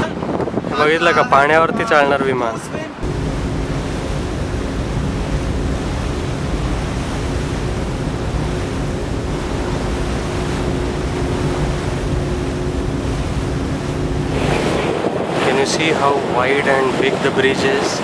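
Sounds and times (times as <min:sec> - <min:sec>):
rush of wind and water: 0:00.0 - 0:18.0
motorboat engine running: 0:02.9 - 0:18.0.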